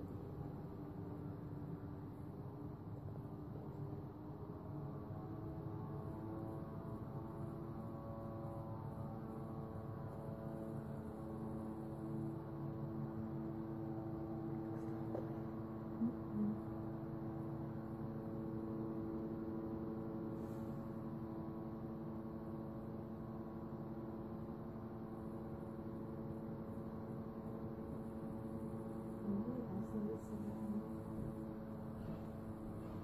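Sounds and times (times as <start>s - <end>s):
low drone of held tones: 0.0s - 33.0s.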